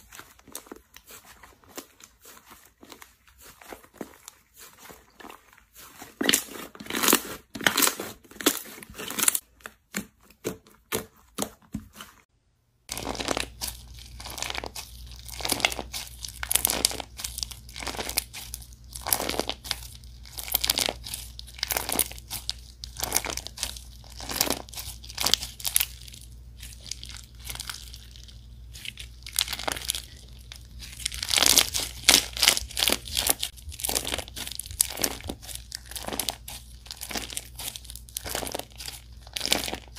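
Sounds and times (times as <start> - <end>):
slime crackling and tearing: 0.0 - 9.4, 12.9 - 39.9.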